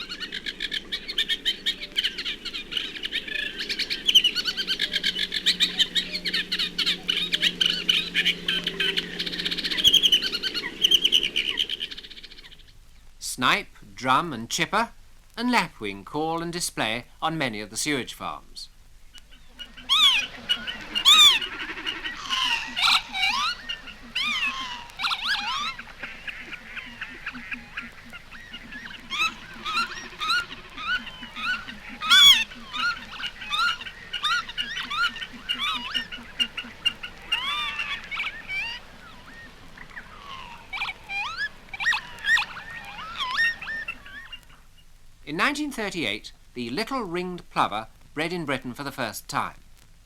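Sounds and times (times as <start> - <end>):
lapwing calls: 0.0 - 13.6, 16.8 - 47.0.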